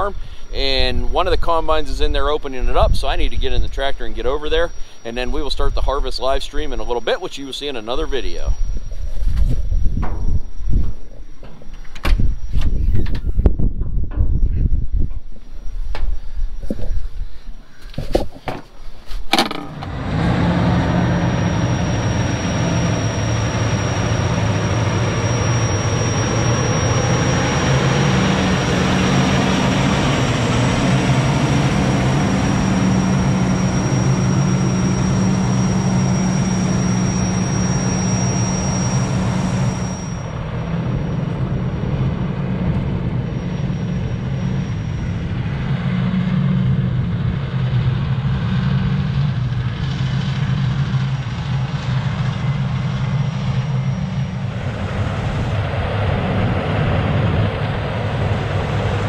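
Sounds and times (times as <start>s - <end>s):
diesel tractor engine drone: 0.0s - 17.6s, 19.3s - 59.0s
thin high whine: 0.0s - 59.0s.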